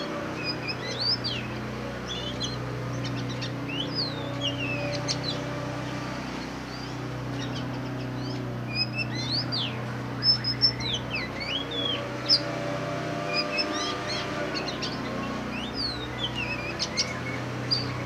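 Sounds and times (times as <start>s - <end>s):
bird singing whistled notes: 0.0s - 5.6s, 6.4s - 18.0s
steady low hum: 0.0s - 18.0s.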